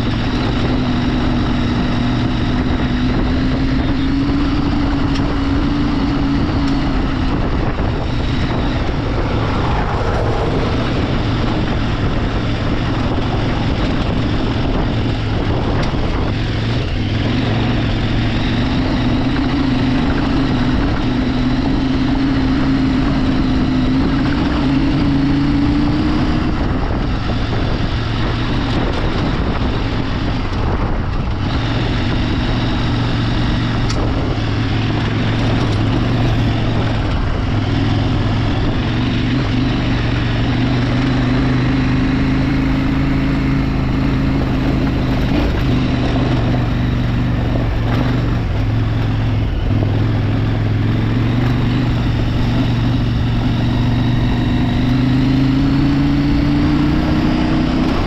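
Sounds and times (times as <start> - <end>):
motorcycle engine running: 0.0 - 58.0
wind rush and tyre noise: 0.0 - 58.0.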